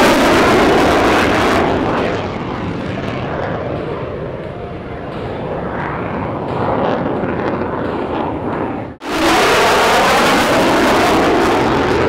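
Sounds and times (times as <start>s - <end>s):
fighter jet engine noise: 0.0s - 12.0s.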